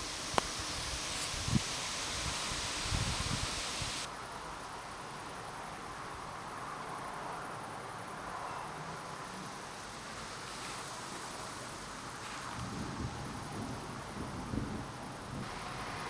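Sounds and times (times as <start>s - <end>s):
rain: 0.0s - 16.0s
wind: 0.0s - 16.0s.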